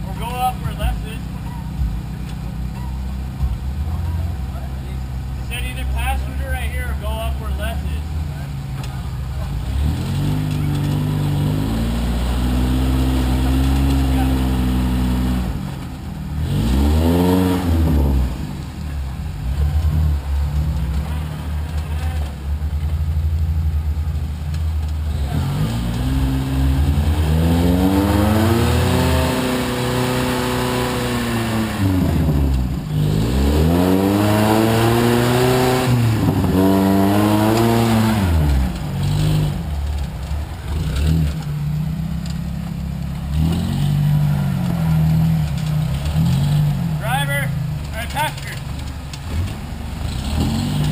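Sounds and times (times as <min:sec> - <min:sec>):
vehicle engine idling and revving: 0:00.0 - 0:50.9.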